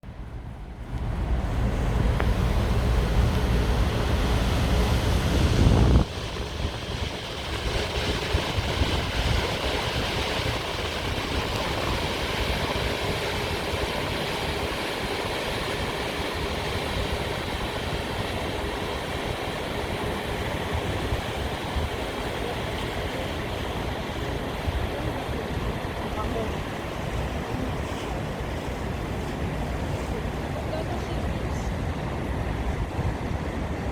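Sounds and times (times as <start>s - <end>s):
outdoor noise: 0.0s - 33.9s
wind rumbling on microphone: 0.0s - 33.9s.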